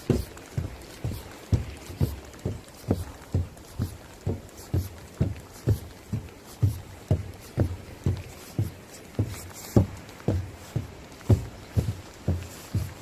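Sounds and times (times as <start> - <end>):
footsteps thumping: 0.0 - 13.0.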